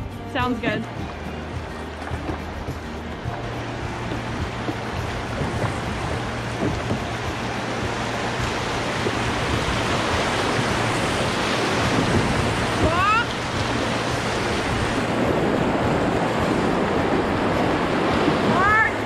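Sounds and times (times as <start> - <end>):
whitewater rapids roaring: 0.6 - 19.0.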